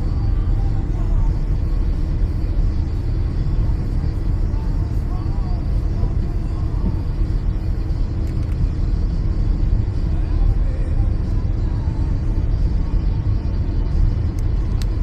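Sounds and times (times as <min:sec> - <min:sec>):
car driving on wet road: 0:00.1 - 0:15.0.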